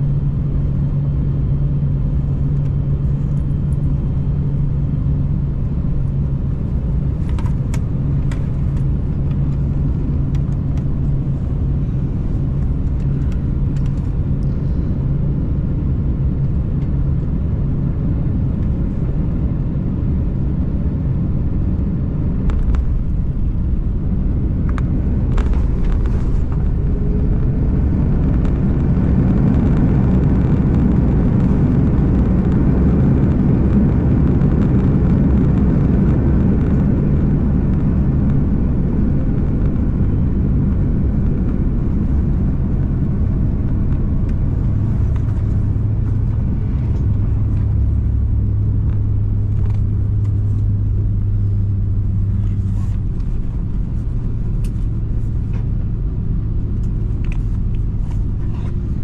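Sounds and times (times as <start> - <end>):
aircraft engine drone: 0.0 - 59.0
aircraft touchdown and runway roll: 0.0 - 59.0.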